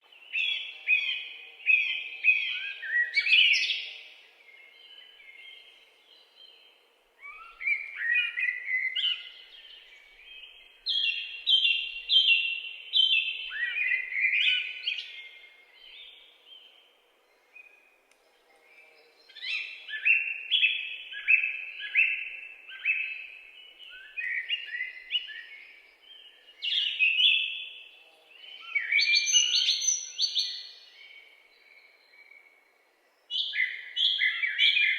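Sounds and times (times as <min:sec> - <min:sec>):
songbird chirping: 0:00.0 - 0:34.9.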